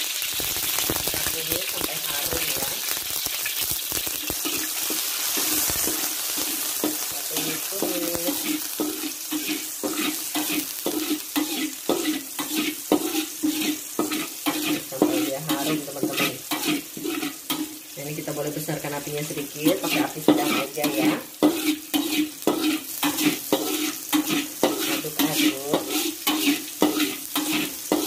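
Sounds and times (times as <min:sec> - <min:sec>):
chives sizzling in hot oil: 0:00.0 - 0:28.0
metal spatula scraping a pan: 0:01.0 - 0:03.0, 0:04.1 - 0:28.0.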